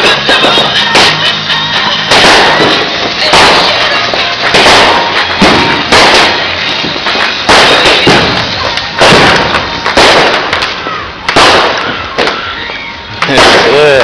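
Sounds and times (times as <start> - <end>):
fireworks banging: 0.0 - 14.0
fireworks crackling: 0.0 - 14.0.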